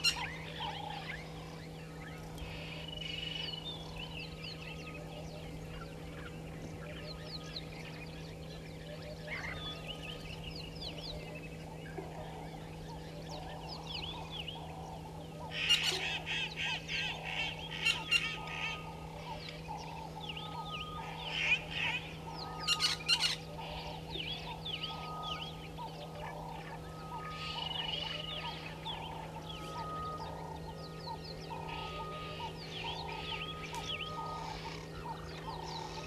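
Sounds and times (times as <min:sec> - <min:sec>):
birds chirping: 0:00.0 - 0:36.0
harsh rapid bird calls: 0:00.0 - 0:36.0
steady low hum: 0:00.0 - 0:36.0.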